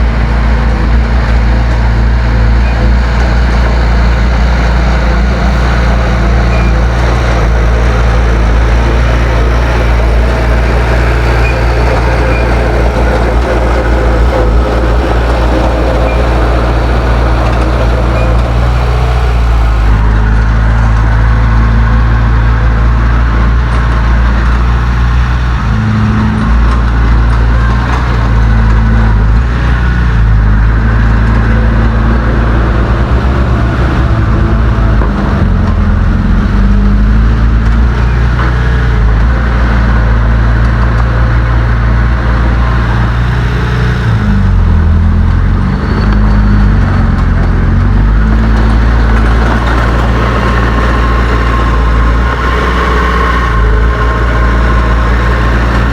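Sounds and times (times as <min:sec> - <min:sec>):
heavy diesel engine under load: 0:00.0 - 0:55.9.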